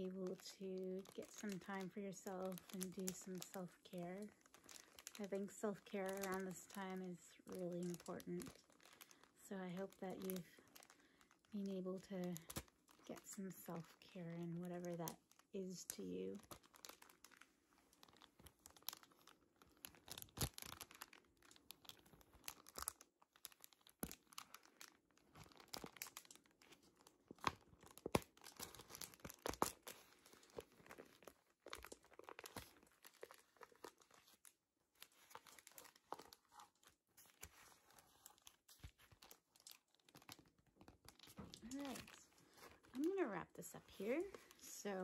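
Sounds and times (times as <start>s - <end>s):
packaging crinkling and crackling: 0.0s - 45.0s.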